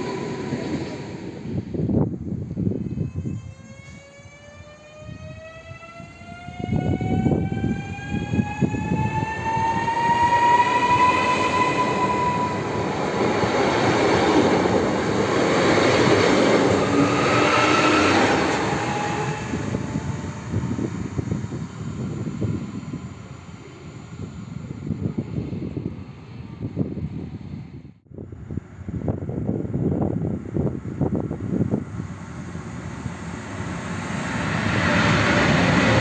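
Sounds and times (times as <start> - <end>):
electric train traction whine: 0.0 - 26.8, 28.5 - 36.0
train rumbling past: 0.0 - 36.0.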